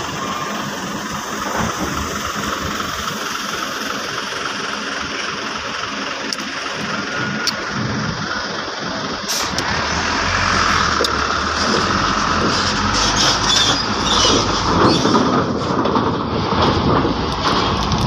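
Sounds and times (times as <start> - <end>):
truck engines running: 0.0 - 18.0.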